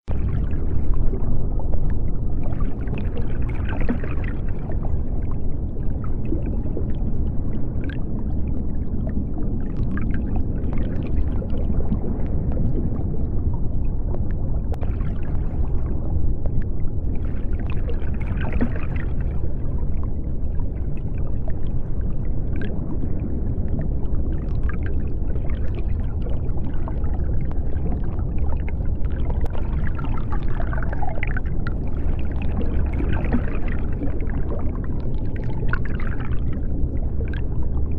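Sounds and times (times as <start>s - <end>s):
deep underwater rumble: 0.0s - 37.9s
water gurgling and bubbling: 0.0s - 37.9s.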